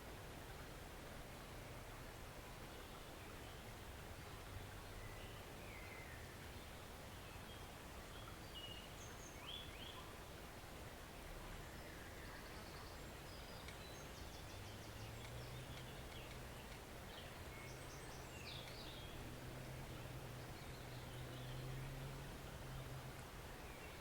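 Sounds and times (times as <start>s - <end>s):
stream flowing: 0.0s - 24.0s
small birds chirping: 2.7s - 10.3s, 11.7s - 24.0s.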